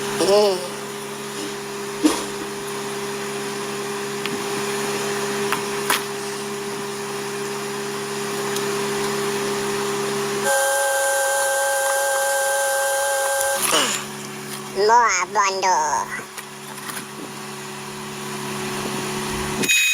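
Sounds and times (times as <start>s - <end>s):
electric motor humming: 0.0s - 19.9s.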